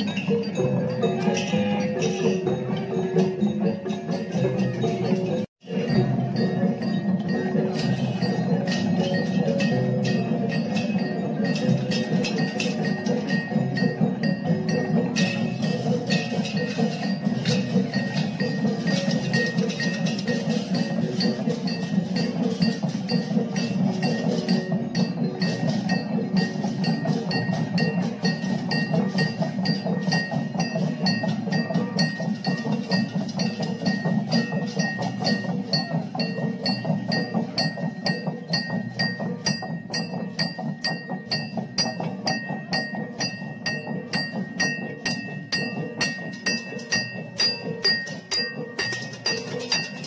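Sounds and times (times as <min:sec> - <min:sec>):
cymbals clinking: 0:00.0 - 0:50.0
wooden bells clattering: 0:00.0 - 0:50.0.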